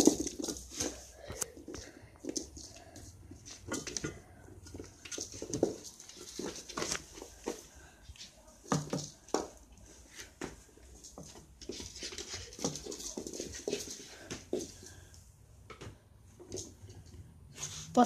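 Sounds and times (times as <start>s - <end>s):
kitten paws tapping on wood: 0.0s - 17.3s.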